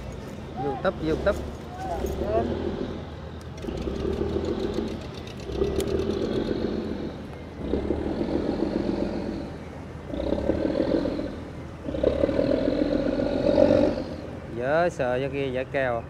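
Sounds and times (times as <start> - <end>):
boat diesel engine surging: 0.0 - 16.0.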